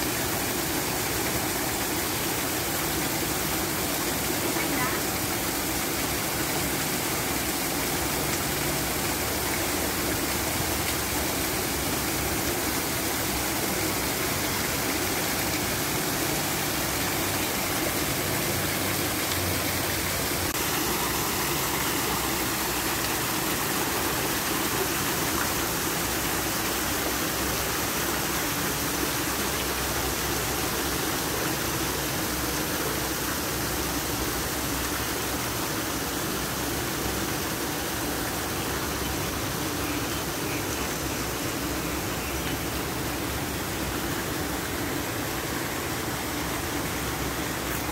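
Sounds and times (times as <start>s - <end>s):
waterfall splashing into pool: 0.0s - 47.9s.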